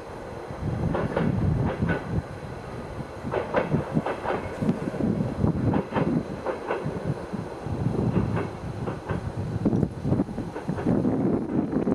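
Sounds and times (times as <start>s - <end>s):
diesel train approaching: 0.0s - 11.9s.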